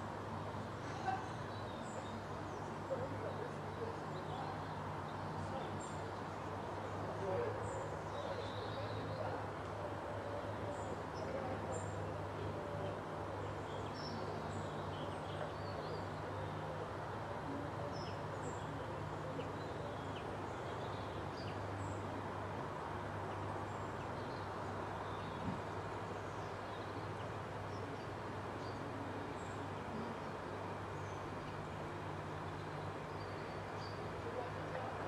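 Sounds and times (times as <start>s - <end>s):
constant hiss: 0.0s - 35.0s
songbirds chirping: 0.0s - 35.0s.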